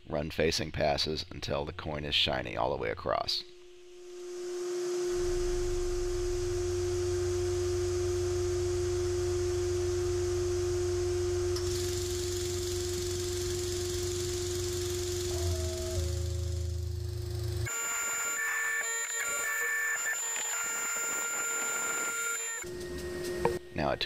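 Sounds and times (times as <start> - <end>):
machine spindle high whine: 3.6 - 24.0.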